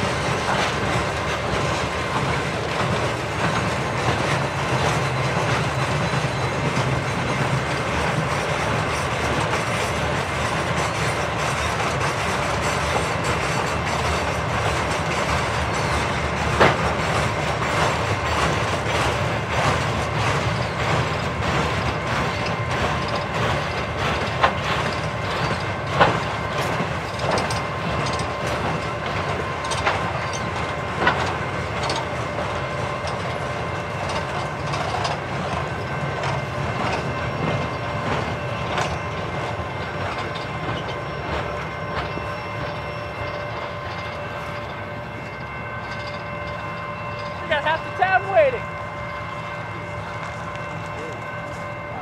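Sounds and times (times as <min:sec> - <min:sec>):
freight train rumbling and rattling: 0:00.0 - 0:52.0
train clanks: 0:00.0 - 0:52.0.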